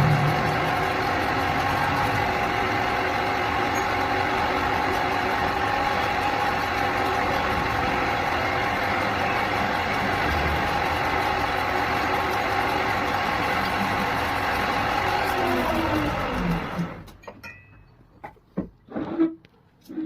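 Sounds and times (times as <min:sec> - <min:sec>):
steady mechanical hum: 0:00.0 - 0:18.8.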